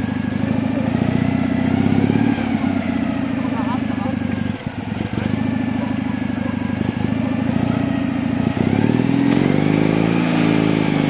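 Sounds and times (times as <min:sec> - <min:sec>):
petrol engine idling and revving: 0:00.0 - 0:11.0.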